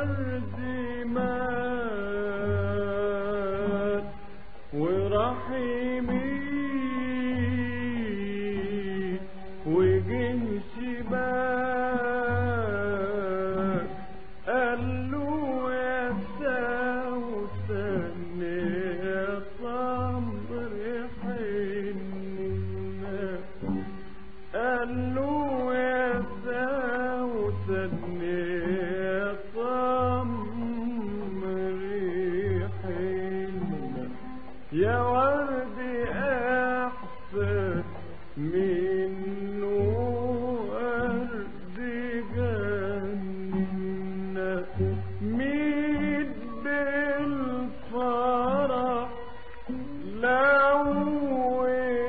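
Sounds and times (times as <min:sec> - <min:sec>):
old recording of ornamented melody: 0:00.0 - 0:52.0.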